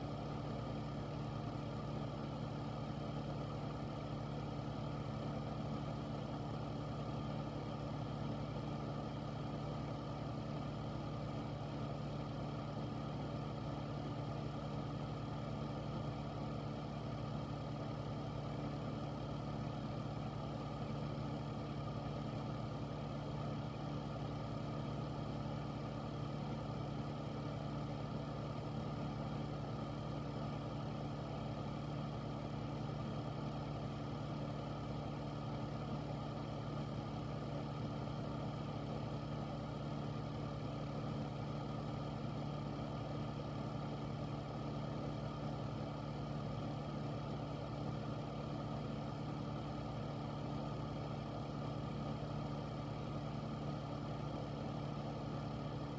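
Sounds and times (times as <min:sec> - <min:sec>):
air purifier fan humming: 0:00.0 - 0:55.9.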